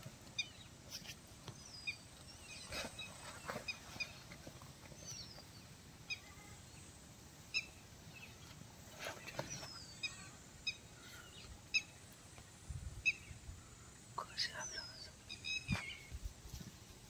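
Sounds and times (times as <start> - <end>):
bird chirping: 0.4 - 12.0, 13.0 - 13.4, 14.2 - 16.3.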